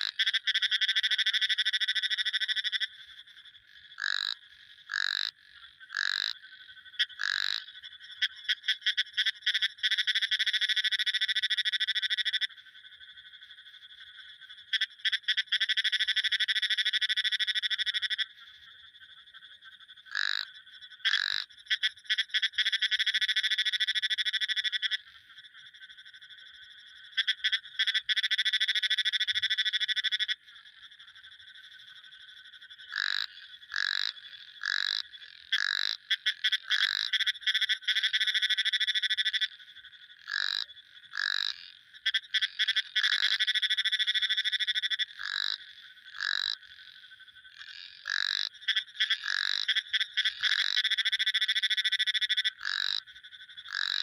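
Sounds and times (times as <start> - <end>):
frog single croaks: 0.0 - 54.0
frogs trilling: 0.0 - 54.0.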